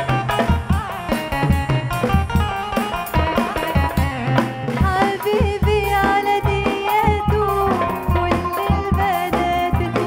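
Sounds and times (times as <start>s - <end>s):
pop song with drums bass guitar: 0.0s - 10.0s.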